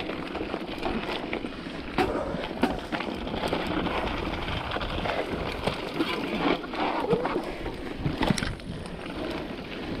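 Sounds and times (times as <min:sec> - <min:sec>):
bike knocking and rattling: 0:00.0 - 0:10.0
bike tyres on dirt trail: 0:00.0 - 0:10.0.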